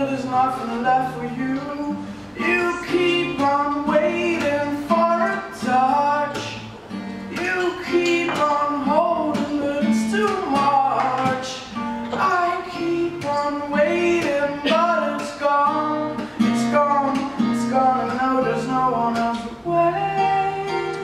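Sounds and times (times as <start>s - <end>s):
person singing: 0.0s - 6.7s, 7.3s - 21.0s
acoustic guitar strumming: 0.0s - 21.0s.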